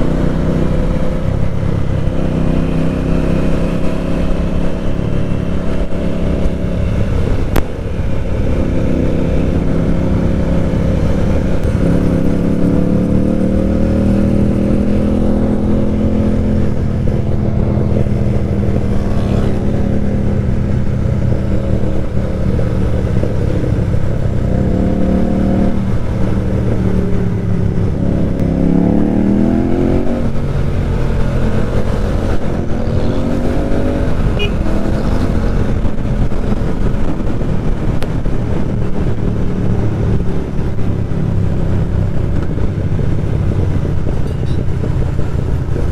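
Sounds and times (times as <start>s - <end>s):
motorcycle engine and exhaust: 0.0s - 45.9s
road and wind noise: 0.0s - 45.9s.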